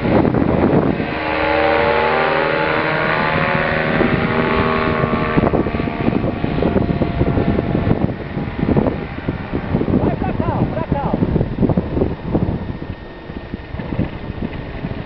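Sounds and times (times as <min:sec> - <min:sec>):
paramotor engine droning: 0:00.0 - 0:15.0
wind noise on microphone: 0:00.0 - 0:15.0.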